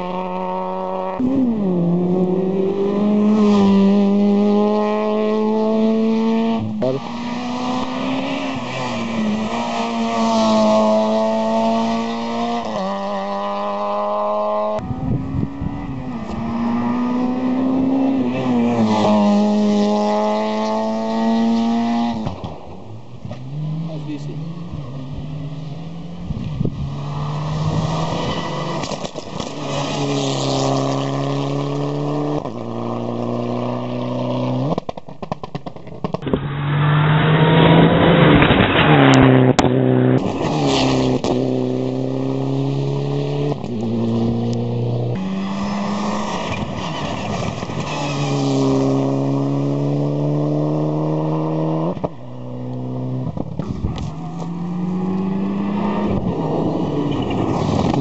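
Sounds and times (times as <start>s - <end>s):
race car passing close: 0.0s - 34.9s, 35.6s - 58.0s
race car engines accelerating: 0.0s - 58.0s.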